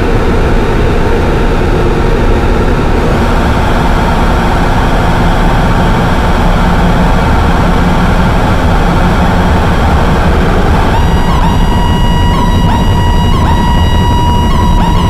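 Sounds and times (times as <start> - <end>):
faint steady tones: 0.0 - 15.0
harsh distorted noise wall: 0.0 - 15.0.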